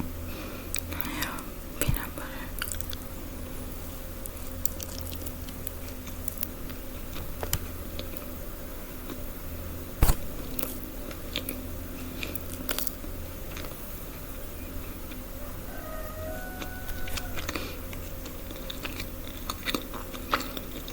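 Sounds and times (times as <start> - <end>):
person chewing crunchy food: 0.0 - 9.3, 10.0 - 20.9
steady low hum: 0.0 - 20.9.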